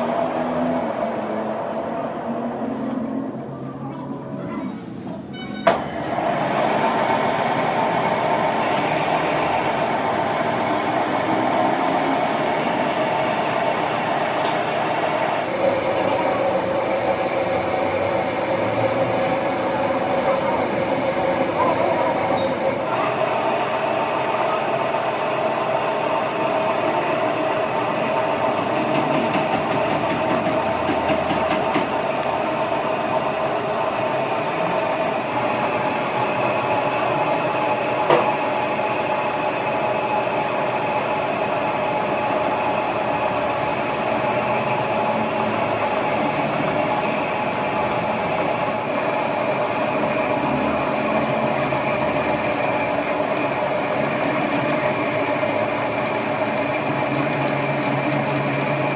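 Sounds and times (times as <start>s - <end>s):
workshop machinery running: 0.0s - 58.9s.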